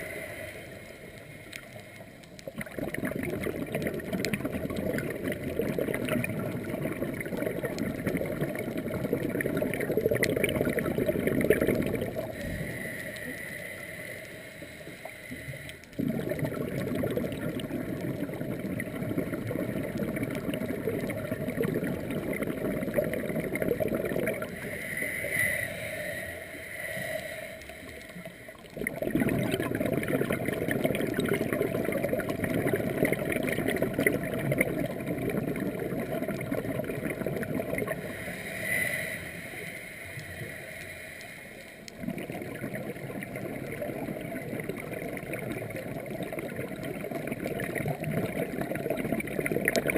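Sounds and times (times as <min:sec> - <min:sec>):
underwater bubbling of exhaled air: 0:00.0 - 0:49.9.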